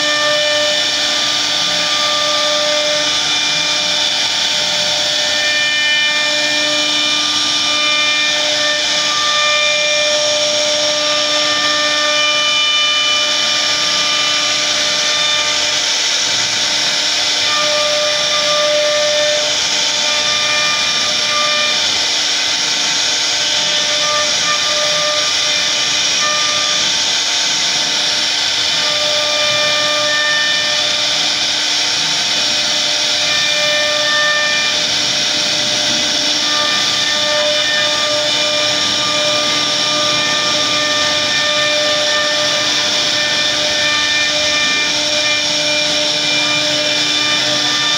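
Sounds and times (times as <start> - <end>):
router spindle whining through wood: 0.0 - 47.9.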